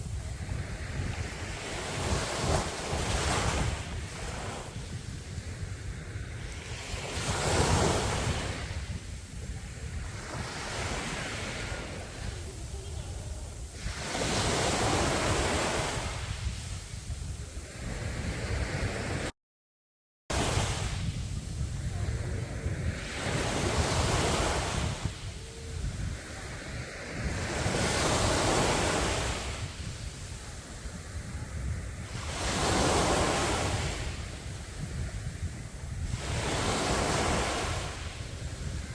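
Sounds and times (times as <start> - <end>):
sea surf breaking on beach: 0.0 - 19.3, 20.3 - 38.9.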